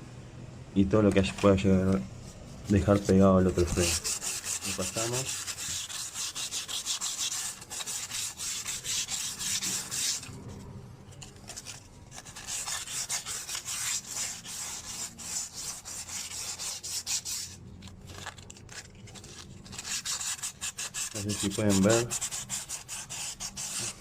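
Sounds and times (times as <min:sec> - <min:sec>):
sandpaper rubbing metal: 0:02.6 - 0:10.3, 0:11.2 - 0:24.0.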